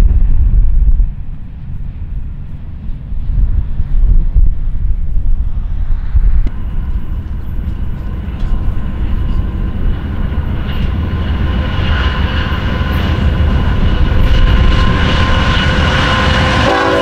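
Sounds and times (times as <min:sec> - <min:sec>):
low rumble: 0:00.0 - 0:16.8
diesel locomotive engine whine: 0:00.0 - 0:17.0
wind on microphone: 0:00.0 - 0:17.0.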